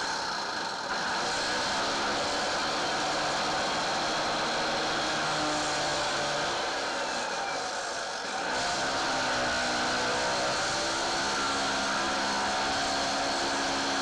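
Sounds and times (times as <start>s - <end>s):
circular saw cutting concrete: 0.0s - 14.0s.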